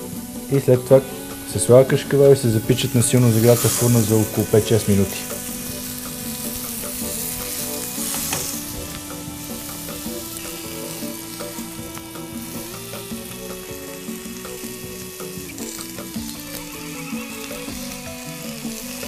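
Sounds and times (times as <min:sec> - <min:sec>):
vegetables sizzling in a pan: 0:00.0 - 0:19.0.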